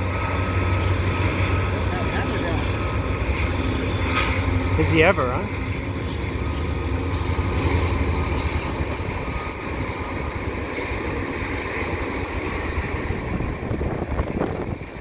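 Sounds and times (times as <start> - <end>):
diesel locomotive engine: 0.0 - 15.0
freight train rumbling past: 0.0 - 15.0
wind buffeting microphone: 0.0 - 15.0.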